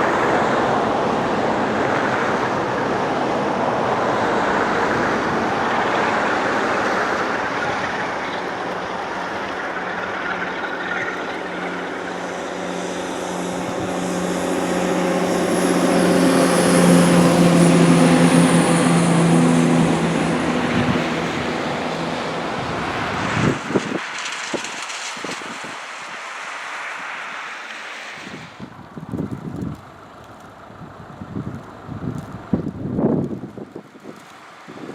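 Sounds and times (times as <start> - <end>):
train wheel and air rush: 0.0 - 28.8
diesel engine hum: 0.0 - 34.9.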